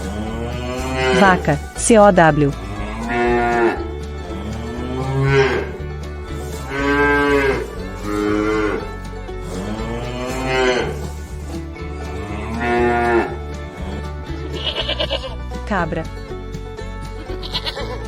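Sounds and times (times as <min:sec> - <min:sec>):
cow mooing: 0:00.0 - 0:01.7, 0:02.5 - 0:15.4.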